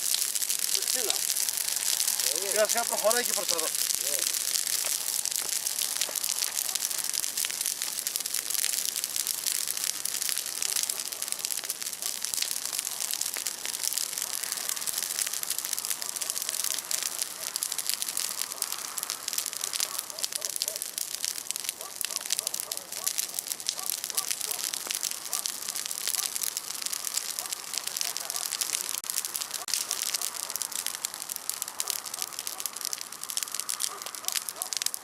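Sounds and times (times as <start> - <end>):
bonfire crackling and hissing: 0.0 - 35.0.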